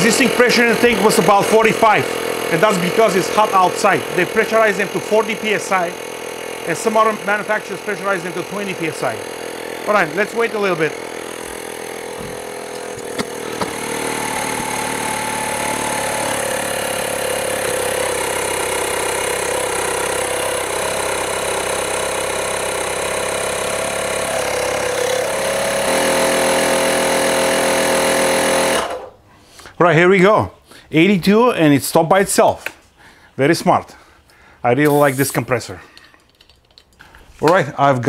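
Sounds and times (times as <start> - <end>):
air compressor running: 0.0 - 29.8, 34.0 - 37.4.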